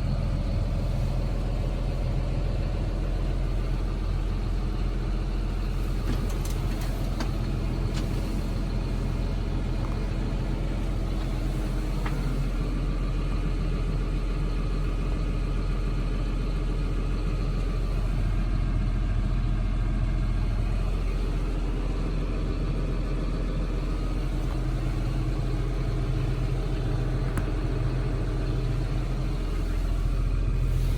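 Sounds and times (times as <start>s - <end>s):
tractor diesel engine idling: 0.0s - 30.9s.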